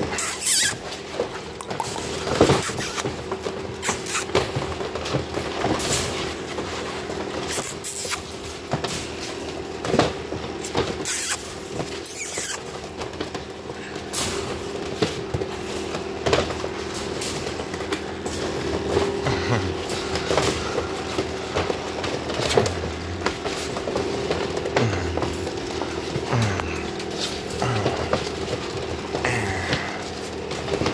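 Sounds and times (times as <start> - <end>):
puppies scuffling in a wire crate: 0.0 - 30.9.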